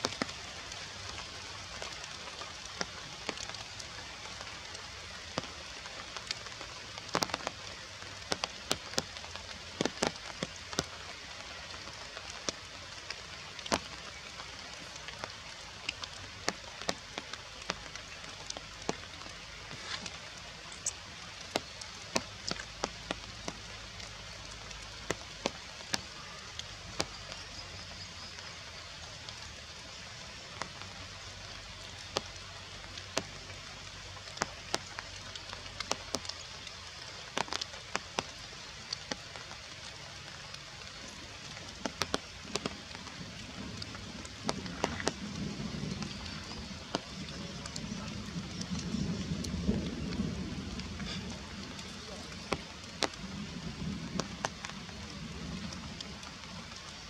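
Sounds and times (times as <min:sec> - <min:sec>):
rain hissing in forest: 0:00.0 - 0:57.0
raindrops tapping: 0:00.0 - 0:57.0.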